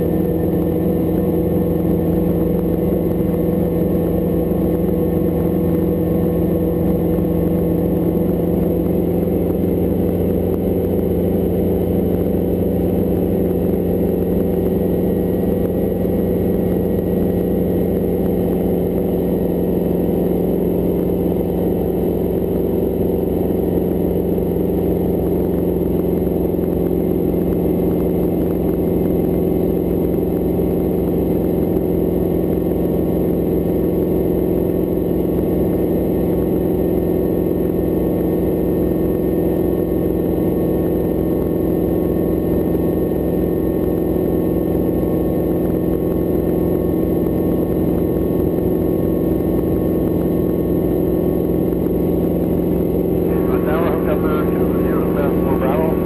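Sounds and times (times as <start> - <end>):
helicopter engine and rotors drone: 0.0 - 56.0.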